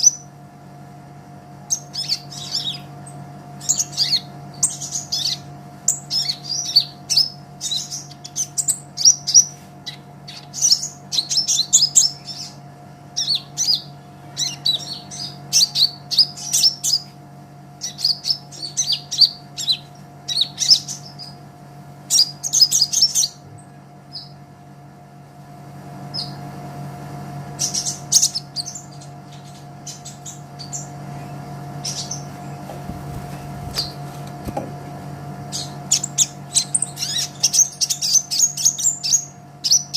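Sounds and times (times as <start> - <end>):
bird chirping and trilling: 0.0 - 0.4, 1.7 - 21.4, 22.0 - 23.5, 24.1 - 24.4, 26.1 - 26.4, 27.6 - 34.6, 35.3 - 39.9
low hum: 0.0 - 39.9.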